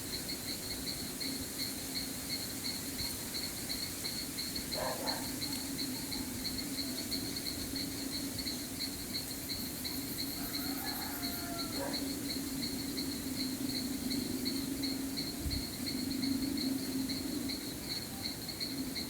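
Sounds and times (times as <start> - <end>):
low frog and insect chorus: 0.0 - 19.0.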